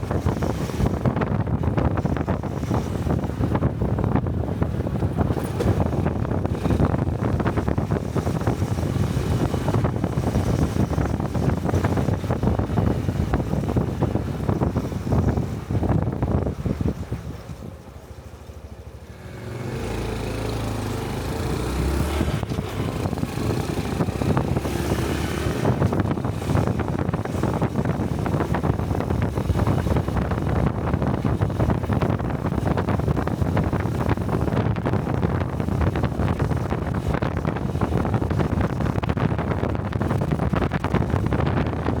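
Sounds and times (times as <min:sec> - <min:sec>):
motorcycle engine riding: 0:00.0 - 0:42.0
wind rushing over microphone: 0:00.0 - 0:42.0.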